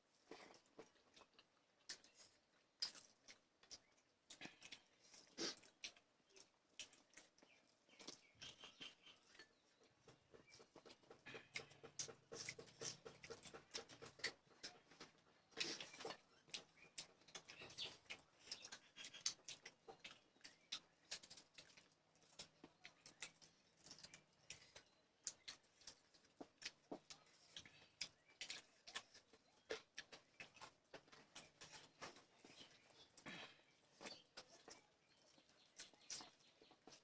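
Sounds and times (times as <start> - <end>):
person chewing: 0.1 - 37.0.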